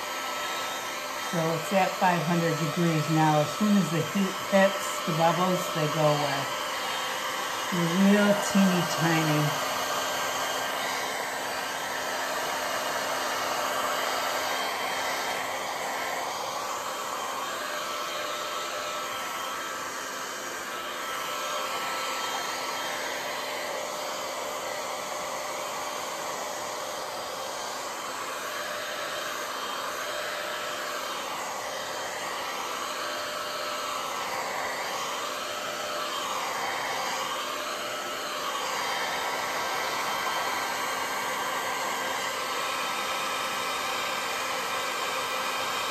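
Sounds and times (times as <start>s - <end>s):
heat gun blowing air: 0.0s - 45.9s.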